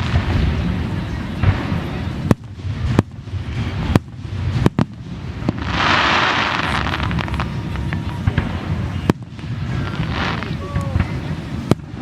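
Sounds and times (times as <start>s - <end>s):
fireworks bangs: 0.0s - 12.0s
fireworks crackle: 0.0s - 12.0s
fireworks pops: 0.0s - 12.0s.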